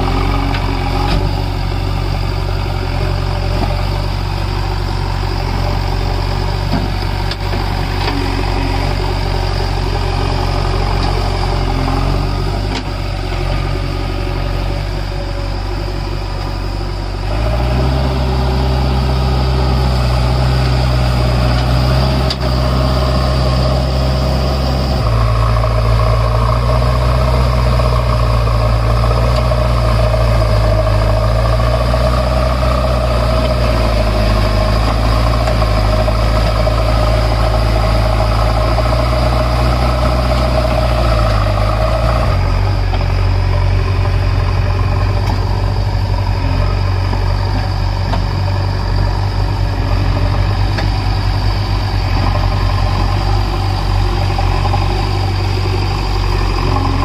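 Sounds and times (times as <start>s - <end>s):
diesel engine under hydraulic load: 0.0s - 57.0s.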